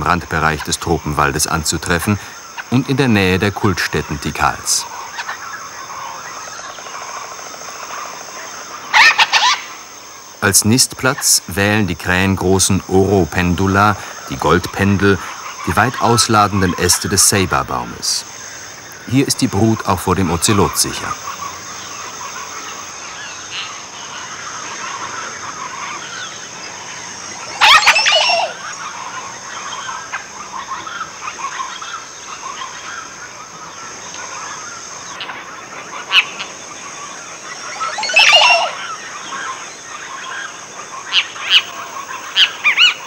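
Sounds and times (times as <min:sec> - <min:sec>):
loud bird calls: 0:00.0 - 0:43.0
soft bird chatter: 0:00.0 - 0:43.0.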